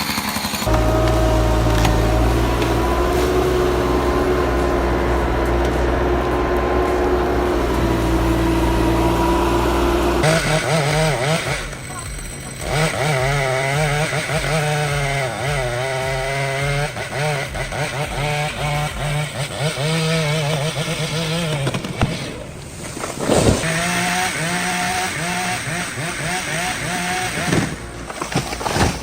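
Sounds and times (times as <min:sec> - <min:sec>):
chainsaw engine running: 0:00.0 - 0:29.0
machine engine humming: 0:00.0 - 0:29.0.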